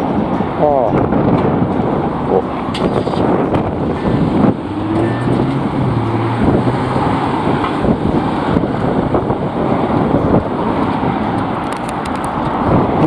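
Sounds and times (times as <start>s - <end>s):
road traffic passing: 0.0s - 13.0s
vehicle engine hum: 0.0s - 13.0s
wind on microphone: 0.0s - 13.0s.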